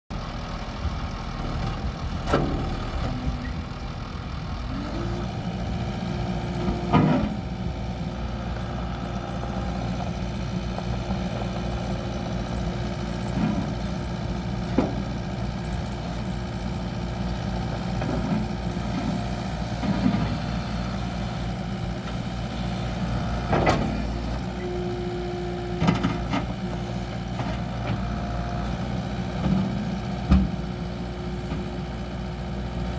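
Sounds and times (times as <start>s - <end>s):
skid steer loader engine running: 0.1s - 32.9s.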